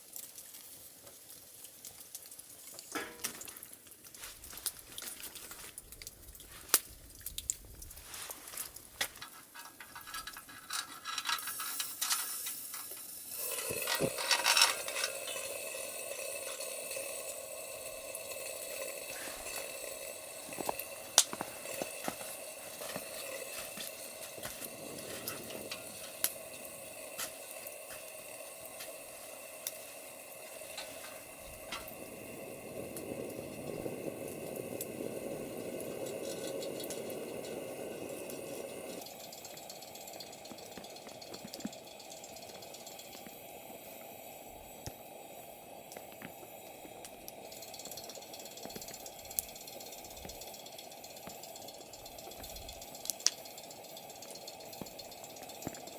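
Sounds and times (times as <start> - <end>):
campfire hissing: 0.0 - 55.9
fire crackles and pops: 0.0 - 55.9.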